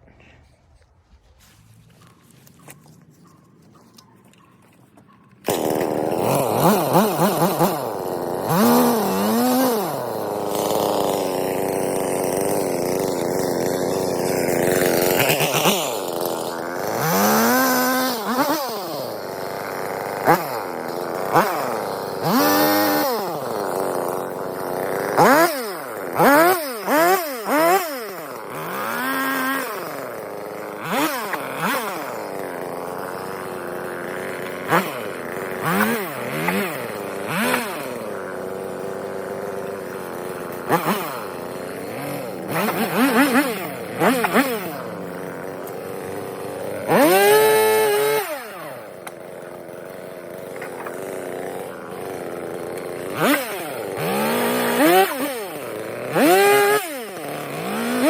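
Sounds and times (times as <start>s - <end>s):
chainsaw cutting wood: 1.0s - 58.0s.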